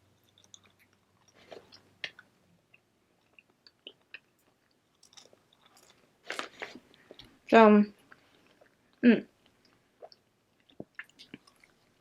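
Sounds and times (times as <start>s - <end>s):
person chewing food: 0.0s - 7.4s, 8.0s - 12.0s.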